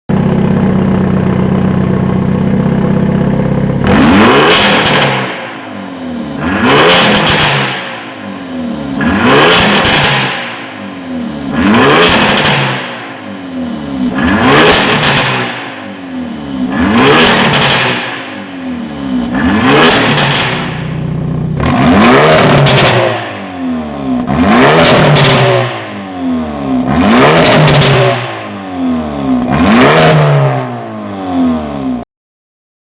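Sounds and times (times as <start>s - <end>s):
car engine revving: 0.2s - 32.0s.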